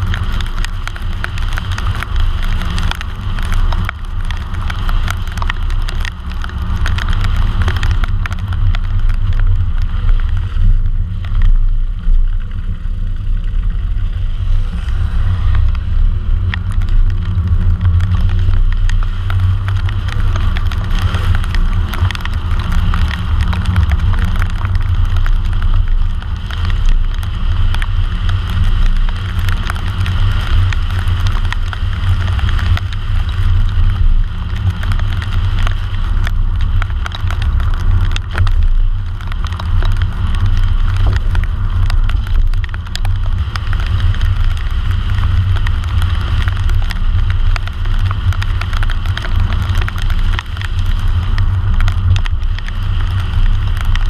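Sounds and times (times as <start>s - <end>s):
car driving low rumble: 0.0s - 54.0s
tyres hissing on wet road: 0.0s - 54.0s.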